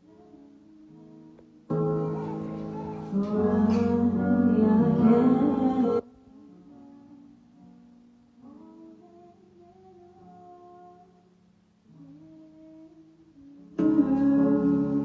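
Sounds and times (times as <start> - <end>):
soft music of long notes: 0.0 - 15.0.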